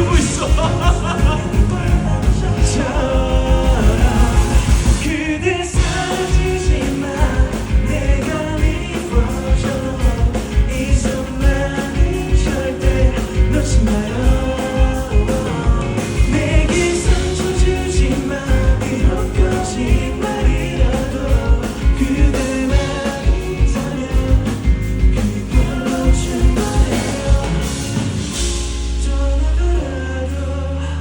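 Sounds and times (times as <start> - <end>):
steady drum beat: 0.0 - 29.1
live band playing pop-rock: 0.0 - 31.0
person singing: 0.0 - 31.0.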